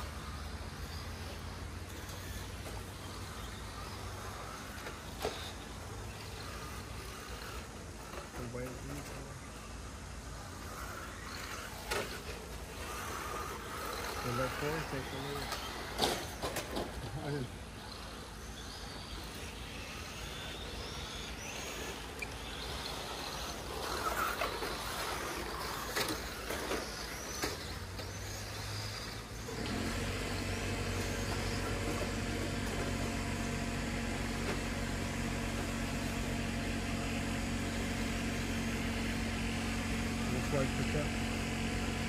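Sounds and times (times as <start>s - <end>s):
low engine hum: 0.0s - 42.0s.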